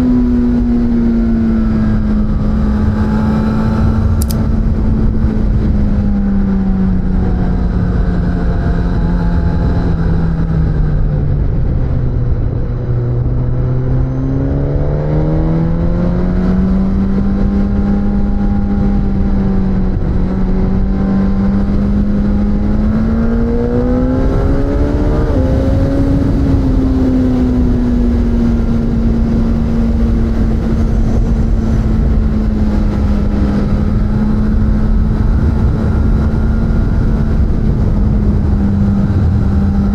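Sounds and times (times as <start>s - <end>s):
wind rushing: 0.0s - 7.4s, 8.6s - 39.9s
motorcycle engine revving: 0.0s - 39.9s.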